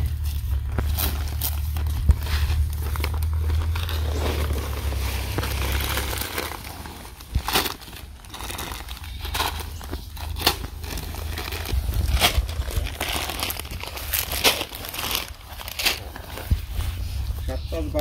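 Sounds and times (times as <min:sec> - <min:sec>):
low rumble: 0:00.0 - 0:18.0
plastic and sacks crinkling: 0:00.0 - 0:18.0
sharp crackles: 0:00.0 - 0:18.0.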